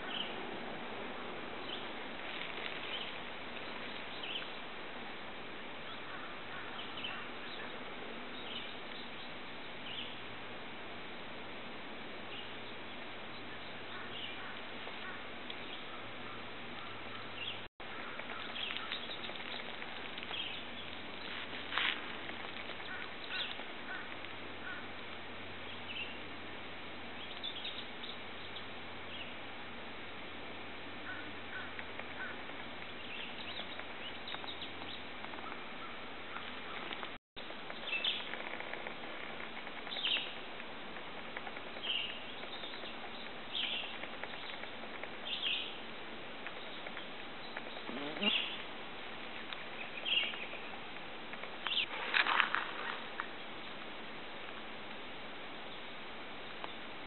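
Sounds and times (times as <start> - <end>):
steady outdoor hiss: 0.0 - 57.0.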